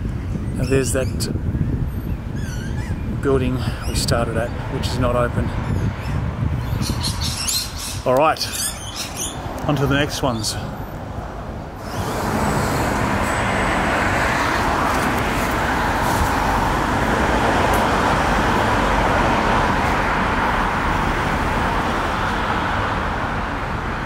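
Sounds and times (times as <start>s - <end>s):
road traffic rushing past: 1.5s - 24.0s.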